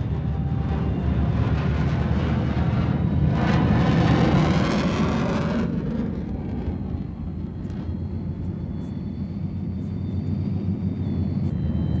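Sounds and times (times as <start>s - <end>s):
jet plane taking off: 0.0s - 12.0s.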